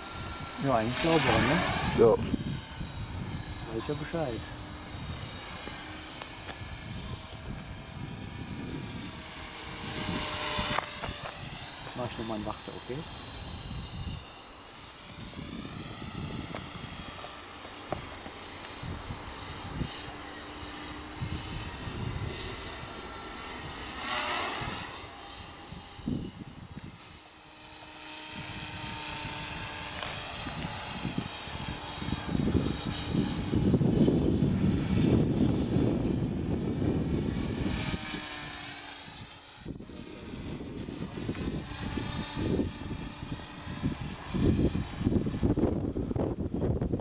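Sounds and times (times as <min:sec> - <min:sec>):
wind rumble on microphone: 0:00.0 - 0:14.2, 0:15.1 - 0:17.2, 0:21.1 - 0:22.9, 0:24.5 - 0:27.2, 0:28.3 - 0:47.0
rc helicopter rotor whine: 0:00.0 - 0:47.0.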